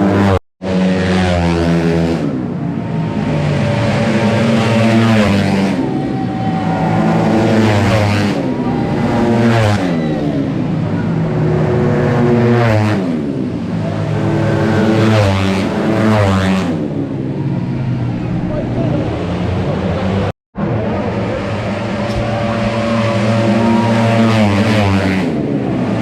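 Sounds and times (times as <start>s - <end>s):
scooter engines passing at high revs: 0.0s - 26.0s.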